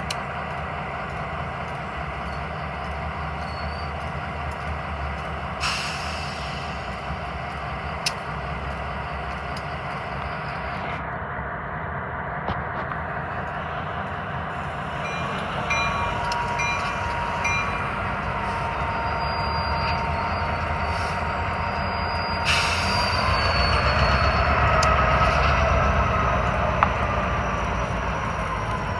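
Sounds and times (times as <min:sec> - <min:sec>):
diesel locomotive rumbling: 0:00.0 - 0:28.9.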